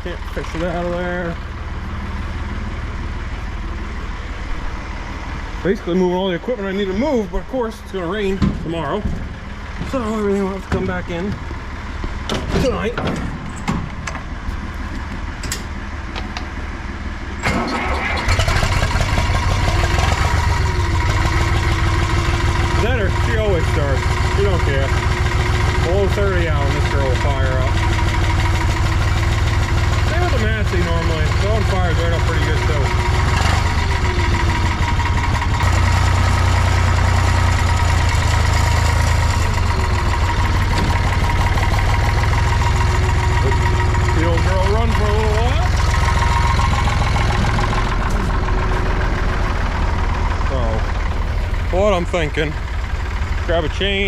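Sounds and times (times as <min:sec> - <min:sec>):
tractor diesel engine starting: 0:00.0 - 0:54.0.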